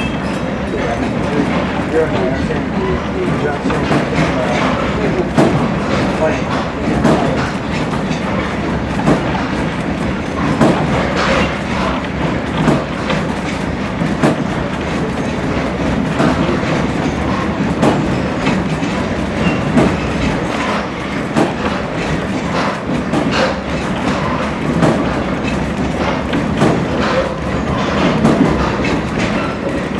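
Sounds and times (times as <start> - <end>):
railroad coach rumbling on rails: 0.0 - 29.9
wheels clacking over rail joints: 0.0 - 29.9.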